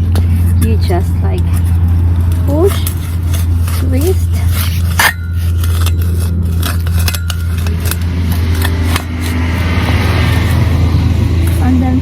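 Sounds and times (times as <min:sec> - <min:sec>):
low engine-like drone: 0:00.0 - 0:12.0
tool scraping soil: 0:00.2 - 0:12.0
planting tool crunching into soil: 0:01.4 - 0:11.8.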